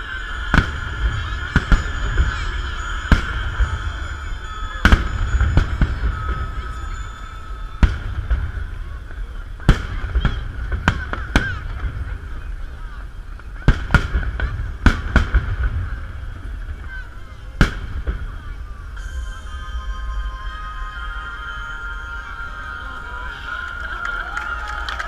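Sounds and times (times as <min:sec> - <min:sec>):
fireworks shells bursting: 0:00.0 - 0:24.5
background din and low rumble: 0:00.0 - 0:25.0.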